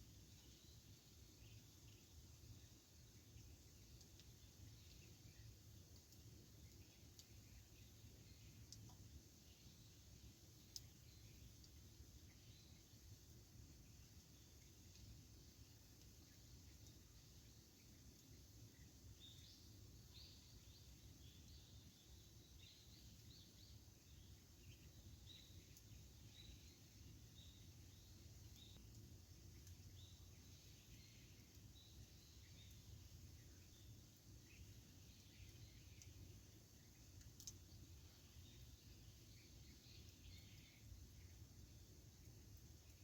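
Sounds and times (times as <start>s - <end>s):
campfire crackling: 1.1s - 43.0s.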